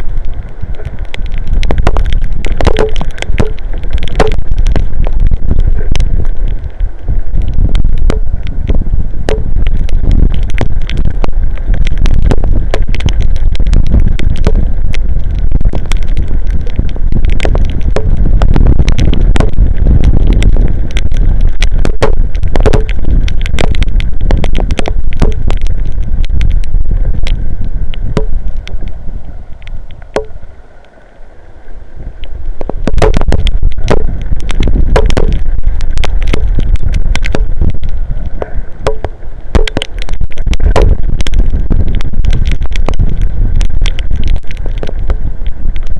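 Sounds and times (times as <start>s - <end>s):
wind buffeting microphone: 0.0s - 30.4s, 31.9s - 45.9s
rain tapping on microphone: 0.0s - 45.9s.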